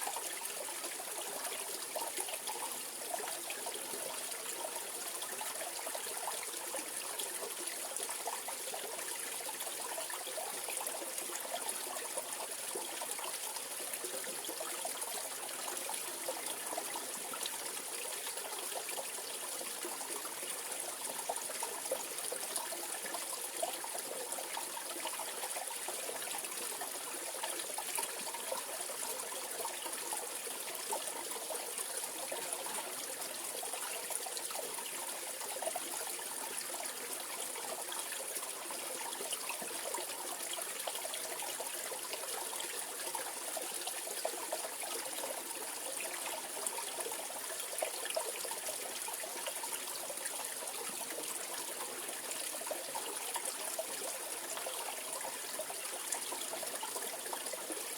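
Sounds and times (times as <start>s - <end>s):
stream water trickling and splashing: 0.0s - 57.9s.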